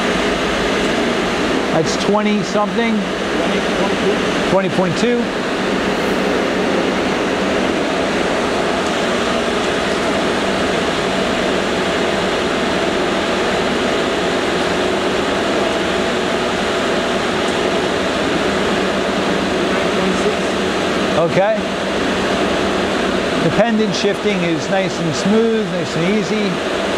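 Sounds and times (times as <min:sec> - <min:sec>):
lathe machine hum: 0:00.0 - 0:26.9.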